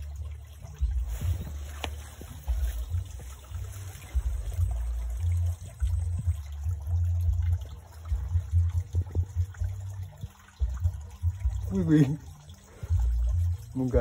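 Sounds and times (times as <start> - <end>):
low microphone rumble: 0.0 - 13.7
hands stirring river water: 0.0 - 13.8.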